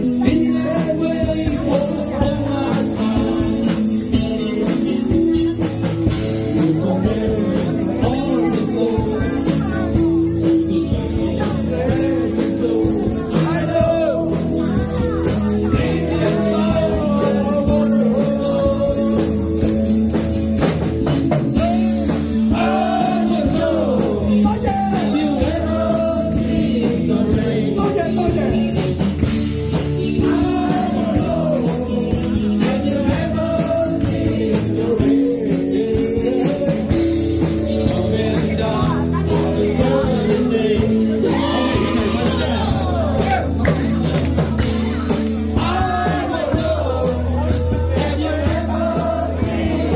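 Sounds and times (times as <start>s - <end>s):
person singing: 0.0s - 20.3s, 21.6s - 29.2s, 29.8s - 43.6s
rock band playing: 0.0s - 49.9s.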